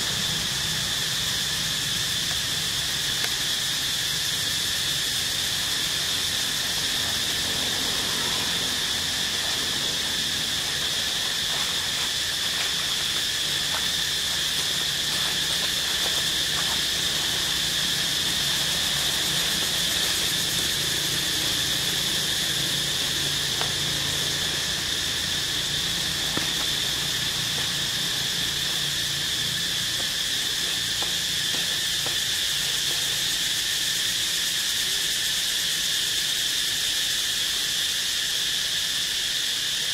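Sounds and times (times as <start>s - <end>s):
insects buzzing drone: 0.0s - 39.9s.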